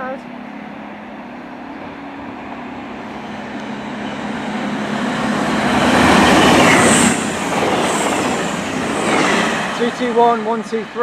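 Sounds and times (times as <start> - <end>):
diesel train approaching: 0.0 - 11.0.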